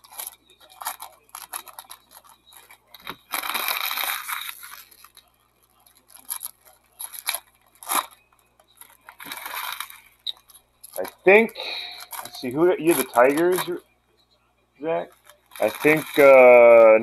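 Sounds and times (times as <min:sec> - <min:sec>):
foil wrapper ripping: 0:00.0 - 0:13.8, 0:15.1 - 0:17.0
foil wrappers crinkling: 0:00.0 - 0:13.8, 0:15.0 - 0:17.0.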